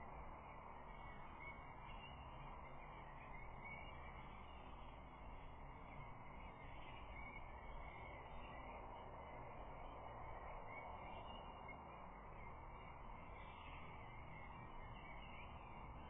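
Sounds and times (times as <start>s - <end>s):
distant birdsong: 0.4s - 16.0s.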